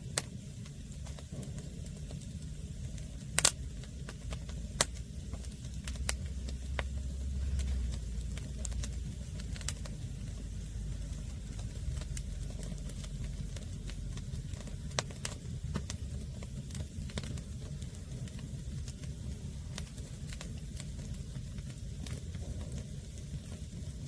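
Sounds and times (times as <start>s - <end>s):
fire popping: 0.0s - 24.0s
low steady rumble: 0.0s - 24.0s
wood fire crackling: 0.0s - 24.0s.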